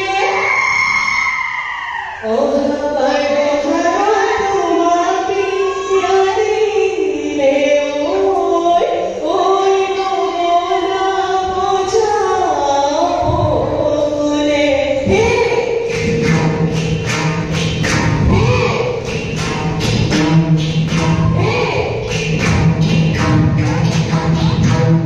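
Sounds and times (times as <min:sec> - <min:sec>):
women singing into microphones: 0:00.0 - 0:23.2.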